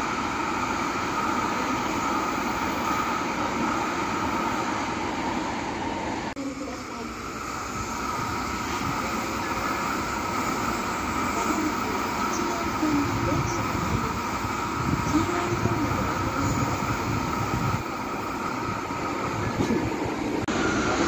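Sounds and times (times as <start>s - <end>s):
train rushing past: 0.0s - 21.0s.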